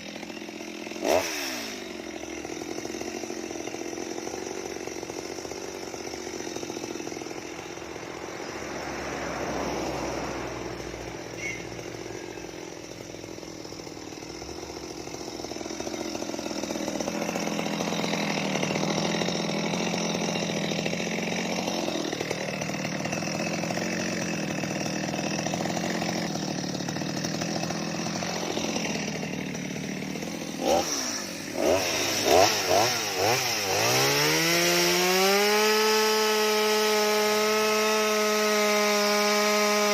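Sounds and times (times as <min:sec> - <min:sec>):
chainsaw cutting wood: 0:00.0 - 0:39.9
chainsaw revving: 0:00.0 - 0:39.9.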